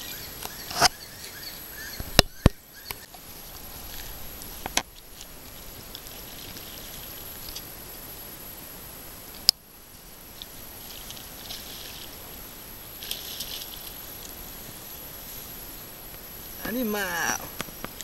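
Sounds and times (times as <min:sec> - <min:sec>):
outdoor pond background: 0:00.0 - 0:18.0.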